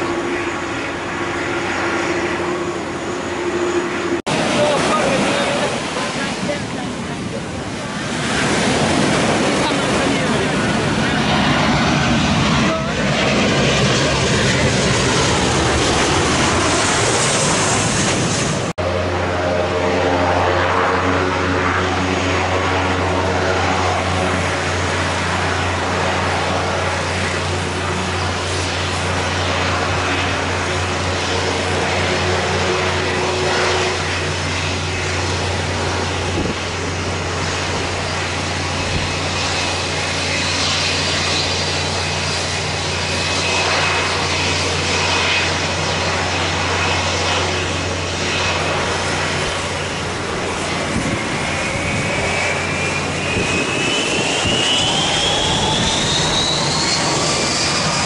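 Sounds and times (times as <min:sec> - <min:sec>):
jet engines droning: 0:00.0 - 0:58.0
rising engine whine: 0:00.0 - 0:58.0.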